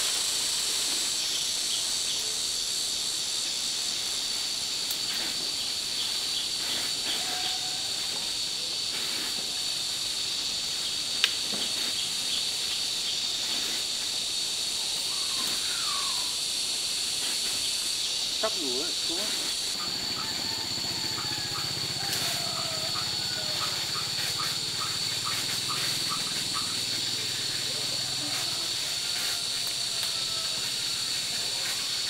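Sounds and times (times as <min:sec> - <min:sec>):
insect chorus drone: 0:00.0 - 0:32.0.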